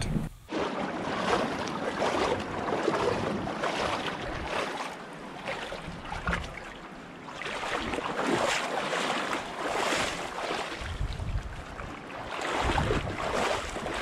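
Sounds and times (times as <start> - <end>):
shoes splashing in water: 0.5 - 14.0.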